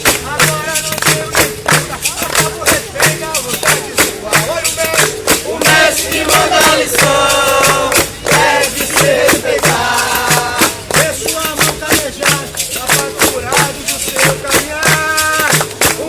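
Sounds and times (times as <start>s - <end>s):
berimbau: 0.0s - 16.0s
hand percussion: 0.0s - 16.0s
tambourine jingles: 0.0s - 16.0s.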